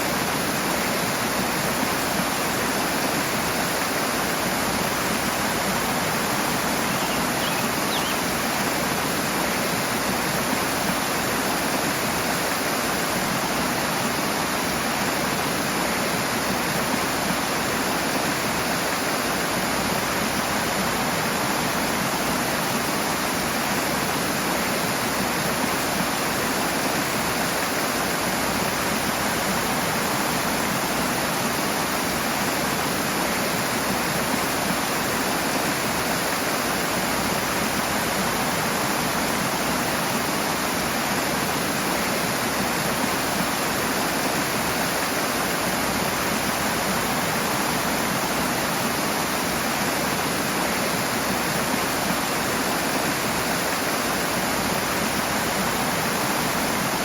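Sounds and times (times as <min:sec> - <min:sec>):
rushing water roar: 0:00.0 - 0:57.0.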